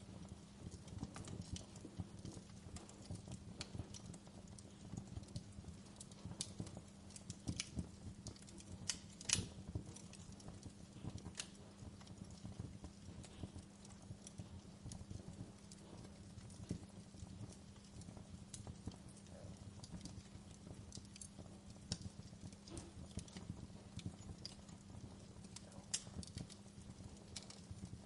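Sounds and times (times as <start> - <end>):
low steady hum: 0.0 - 28.0
wood fire crackling: 0.0 - 28.0.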